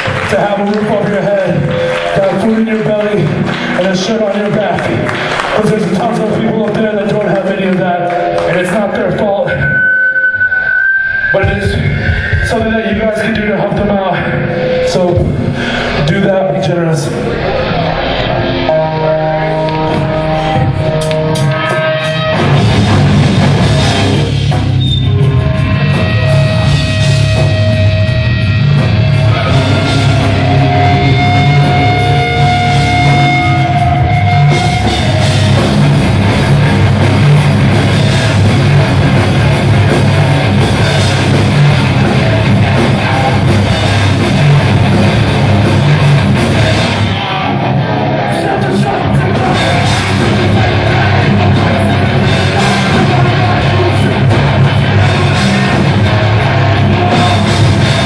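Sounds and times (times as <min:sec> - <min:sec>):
bass guitar: 0:00.0 - 0:58.0
distorted electric guitars: 0:00.0 - 0:58.0
drum kit: 0:11.3 - 0:58.0.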